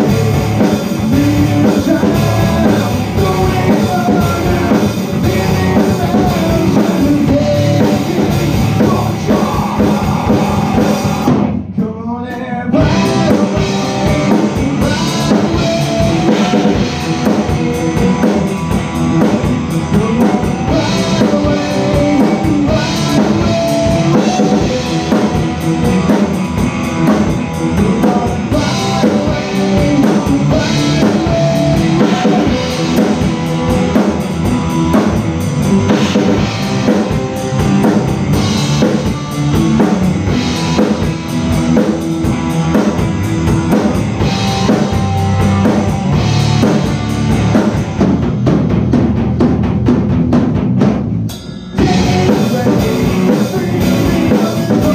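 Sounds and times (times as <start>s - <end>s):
distorted electric guitars: 0.0s - 11.8s, 12.4s - 54.9s
drum kit: 0.0s - 54.9s
rock band playing live: 0.0s - 54.9s.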